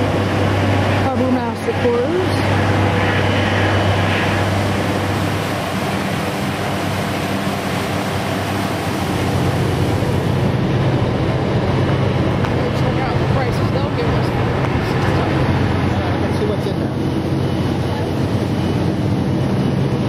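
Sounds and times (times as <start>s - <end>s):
diesel generators humming: 0.0s - 20.0s.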